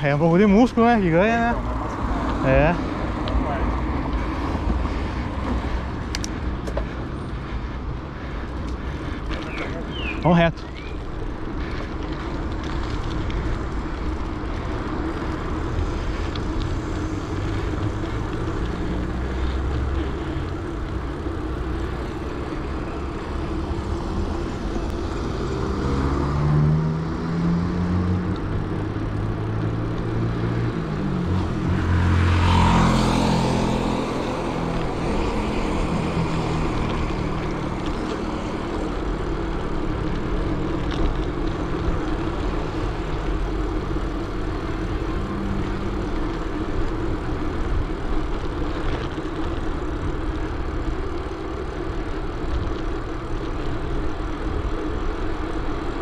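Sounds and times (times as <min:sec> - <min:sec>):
motor vehicles passing: 0:00.0 - 0:56.0.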